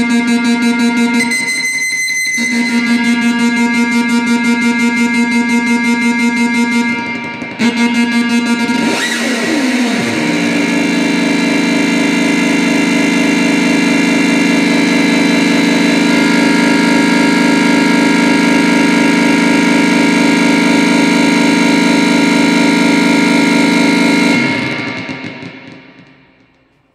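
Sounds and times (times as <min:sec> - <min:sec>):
fluttering electronic drone: 0:00.0 - 0:26.6.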